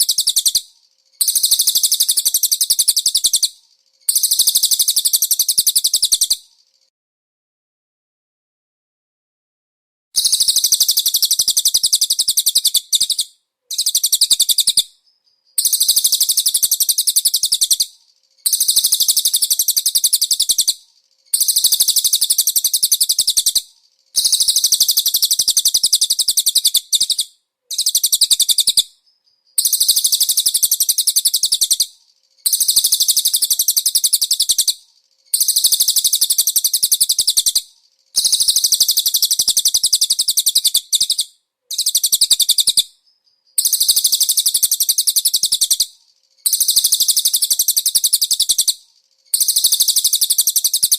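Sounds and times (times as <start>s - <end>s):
songbird high-pitched trill: 0.0s - 6.9s, 10.2s - 50.9s.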